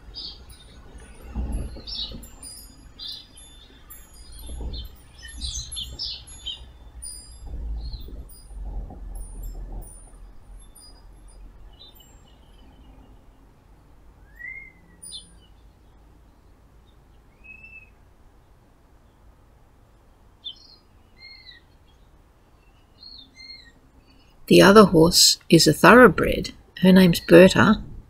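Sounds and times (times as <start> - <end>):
birds chirping faintly: 0.0 - 27.9
low steady hum: 0.0 - 28.0.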